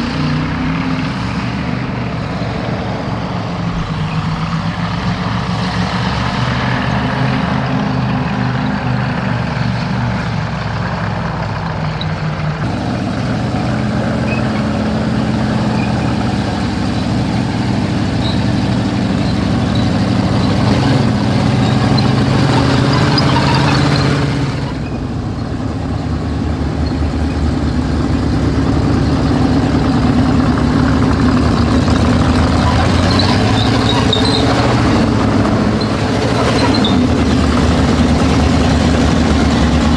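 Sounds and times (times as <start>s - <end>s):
tank engines running: 0.0s - 39.9s.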